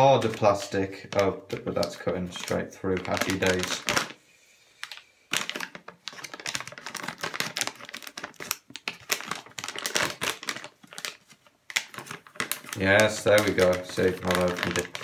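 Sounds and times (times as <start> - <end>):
plastic crinkling: 0.0 - 4.2, 4.8 - 15.0.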